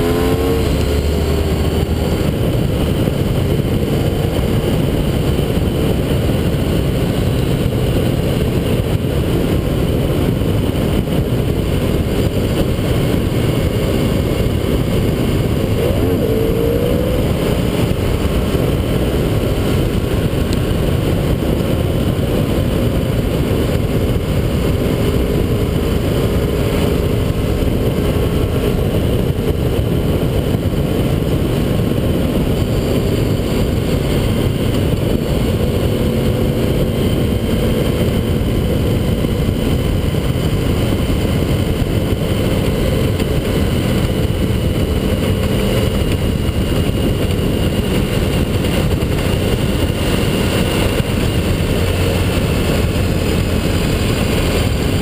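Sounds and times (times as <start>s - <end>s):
faint motorcycle engine: 0.0s - 55.0s
wind and tyre noise: 0.0s - 55.0s.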